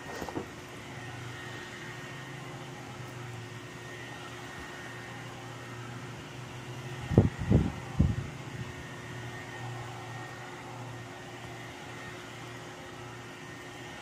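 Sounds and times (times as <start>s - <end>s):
mechanical hum with high whine: 0.0s - 14.0s.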